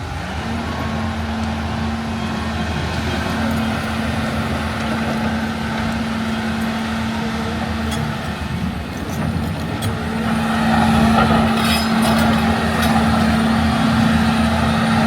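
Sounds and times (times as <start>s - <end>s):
excavator diesel engine humming: 0.0s - 15.0s.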